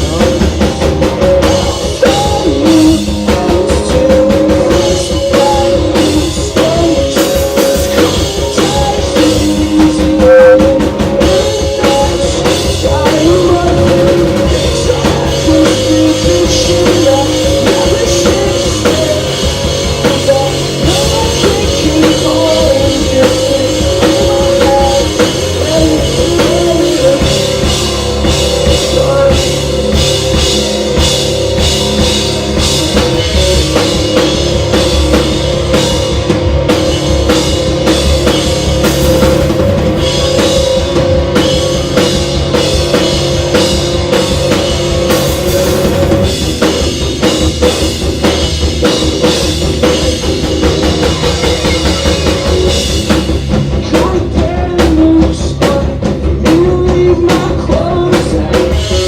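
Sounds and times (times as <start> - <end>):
person singing: 0.0 - 46.9, 49.3 - 59.0
drum kit beat: 0.0 - 59.0
live rock band: 0.0 - 59.0.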